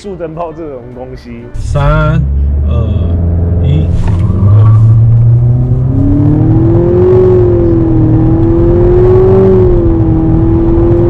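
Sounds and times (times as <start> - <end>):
car engine accelerating hard: 1.6 - 11.0.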